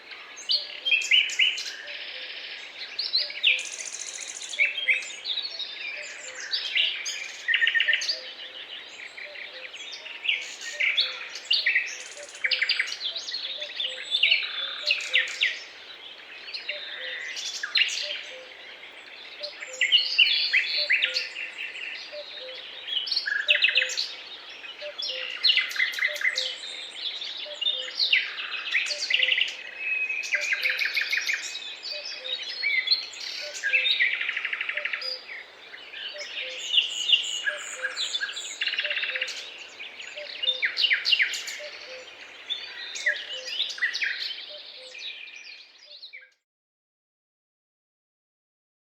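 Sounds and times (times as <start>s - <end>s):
birds singing and calling: 0.0s - 46.4s.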